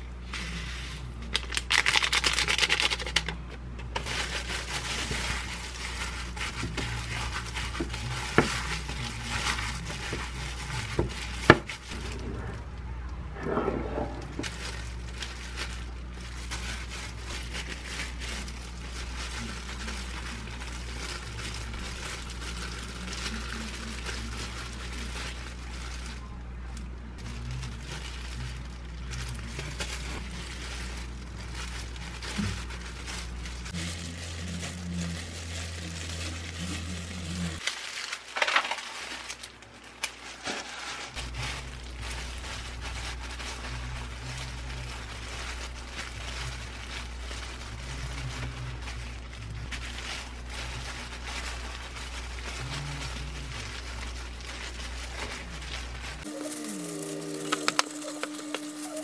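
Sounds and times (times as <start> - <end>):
low hum: 0.0 - 37.7, 40.8 - 59.0
plastic gloves crinkling: 0.0 - 59.0.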